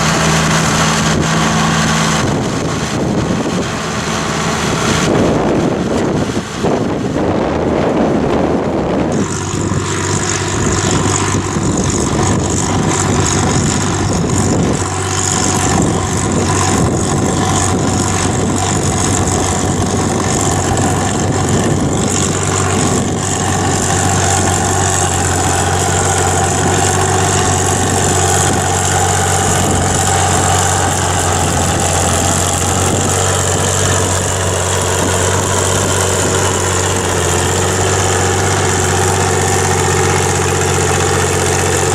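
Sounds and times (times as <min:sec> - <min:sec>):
tractor diesel engine running: 0:00.0 - 0:41.9
wind noise on microphone: 0:00.0 - 0:41.9.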